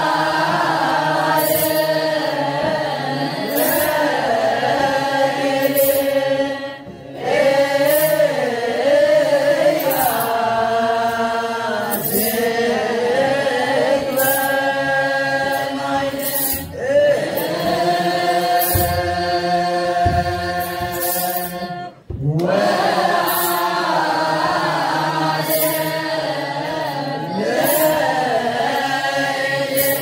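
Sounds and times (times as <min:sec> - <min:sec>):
group of voices chanting: 0:00.0 - 0:30.0.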